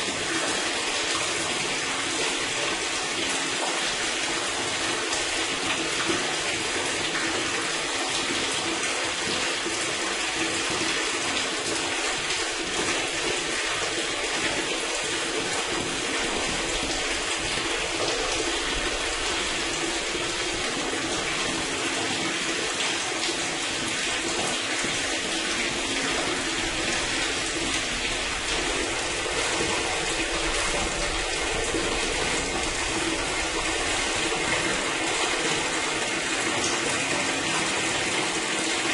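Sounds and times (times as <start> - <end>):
water gushing through drain: 0.0 - 38.9.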